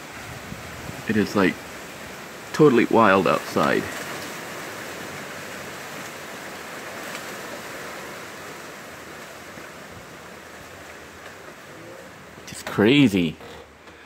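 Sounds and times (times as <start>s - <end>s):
strong wind rushing through trees: 0.0s - 13.9s.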